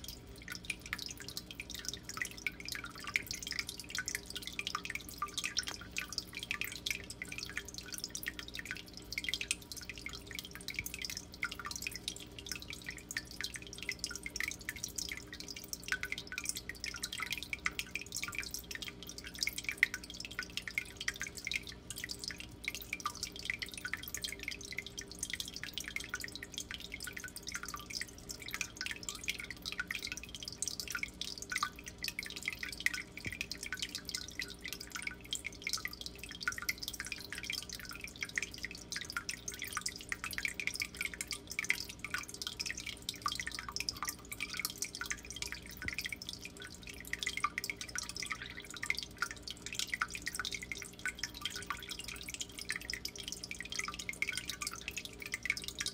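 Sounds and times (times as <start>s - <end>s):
water trickling and dripping: 0.0s - 55.9s.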